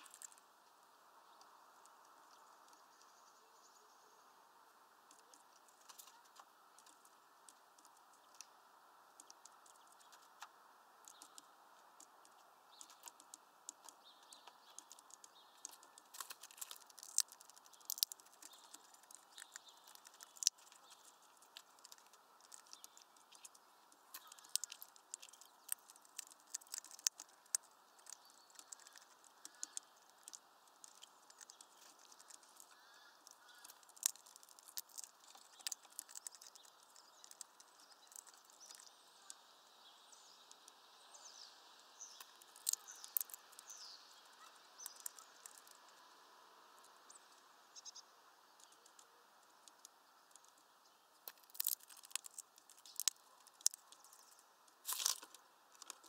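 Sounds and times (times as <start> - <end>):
bird cracking seeds: 0.0 - 3.3, 5.0 - 46.1, 48.6 - 56.0.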